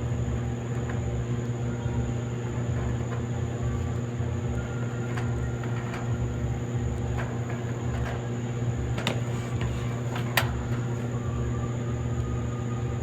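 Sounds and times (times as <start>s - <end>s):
clothes dryer motor hum: 0.0s - 13.0s.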